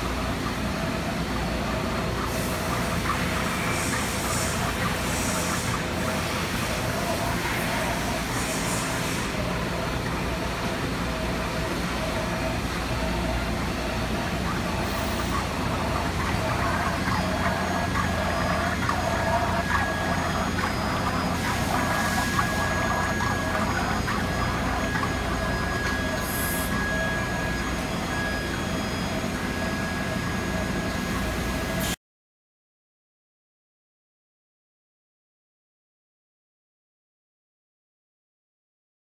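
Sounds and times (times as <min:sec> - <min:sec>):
shop machinery hum: 0:00.0 - 0:32.0.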